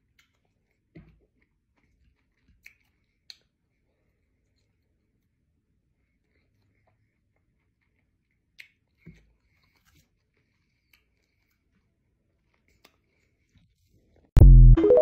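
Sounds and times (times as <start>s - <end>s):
chewing fruit: 0.0s - 5.3s, 5.9s - 14.2s.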